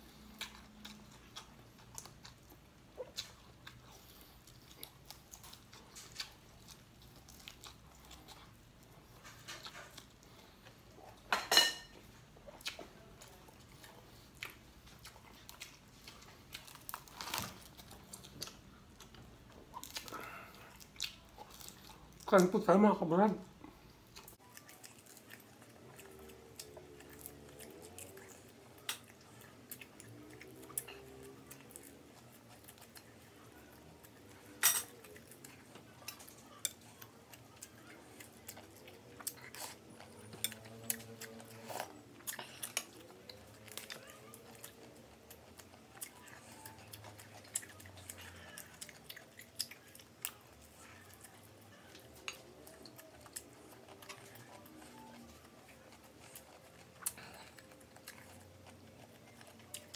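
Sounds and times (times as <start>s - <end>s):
chewing crispy food: 0.0s - 59.9s.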